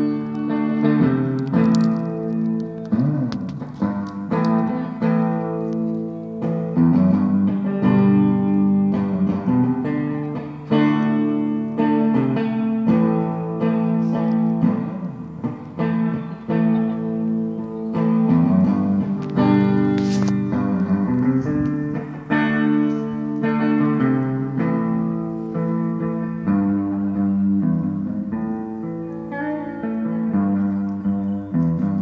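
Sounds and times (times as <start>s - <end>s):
guitar chords ringing: 0.0s - 32.0s.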